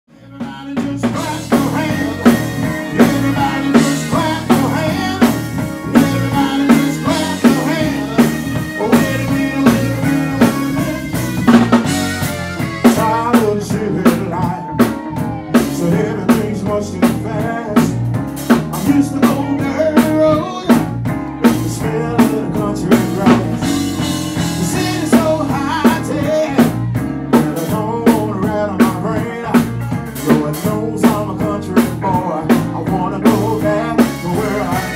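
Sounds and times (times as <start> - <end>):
electric bass: 0.1 - 34.9
keyboards: 0.1 - 34.9
drum kit beat: 0.2 - 34.9.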